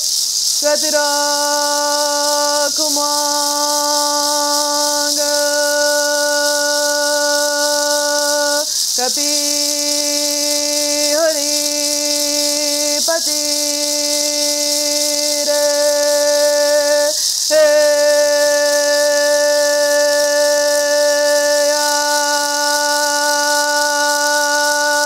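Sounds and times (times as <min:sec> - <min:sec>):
gourd rattle shaking: 0:00.0 - 0:25.0.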